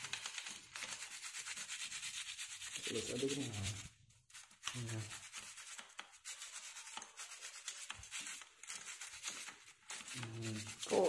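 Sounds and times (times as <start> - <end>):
brush scrubbing bike sprockets: 0.0 - 11.0.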